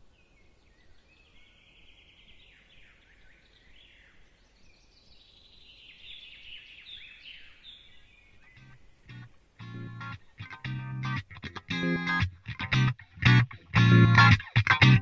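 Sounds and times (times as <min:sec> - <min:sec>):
faint birdsong trills and chirps: 0:00.0 - 0:14.6.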